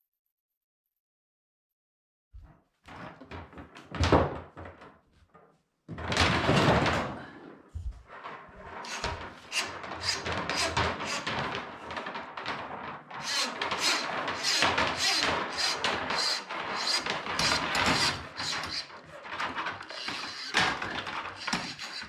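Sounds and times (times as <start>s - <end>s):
objects knocking and scraping: 2.4s - 22.0s.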